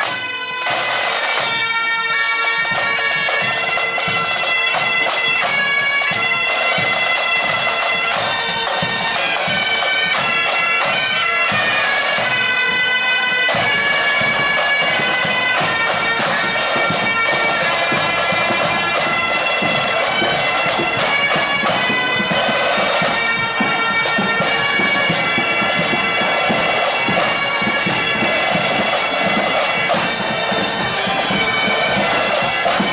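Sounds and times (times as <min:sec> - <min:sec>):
bagpipes playing a march: 0:00.0 - 0:32.9
snare drums rattling: 0:00.0 - 0:32.9.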